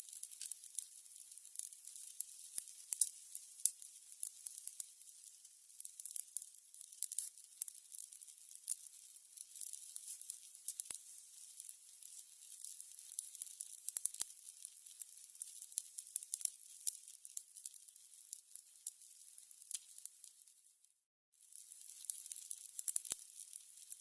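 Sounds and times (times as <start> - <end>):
candles crackling: 0.0 - 6.4, 7.0 - 20.7, 21.4 - 24.0.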